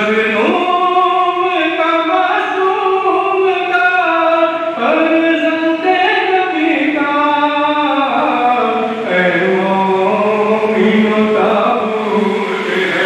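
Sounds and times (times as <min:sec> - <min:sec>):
mourning lament chanted: 0:00.0 - 0:13.0.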